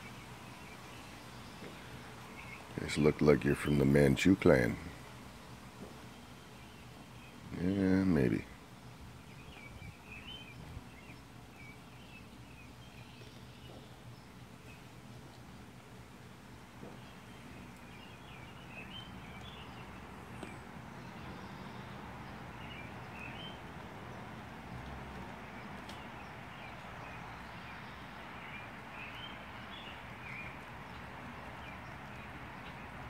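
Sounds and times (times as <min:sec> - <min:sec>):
birds chirping: 0:00.0 - 0:33.0
outdoor background hum: 0:00.0 - 0:33.0.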